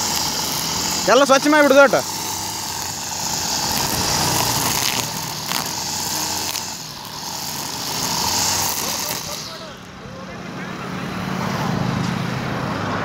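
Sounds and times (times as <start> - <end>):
brush cutter engine running: 0.0 - 11.6.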